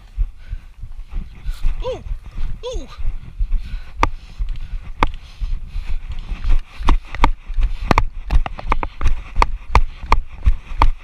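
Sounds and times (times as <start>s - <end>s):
running footsteps: 0.0s - 11.0s.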